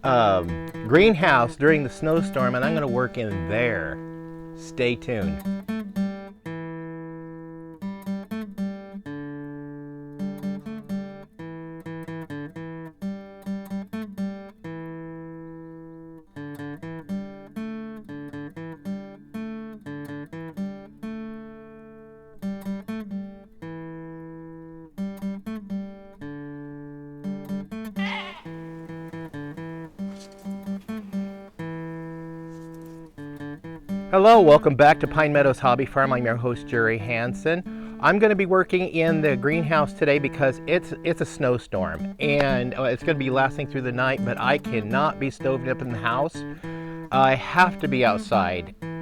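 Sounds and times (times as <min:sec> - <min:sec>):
acoustic guitar picking: 0:00.0 - 0:49.0.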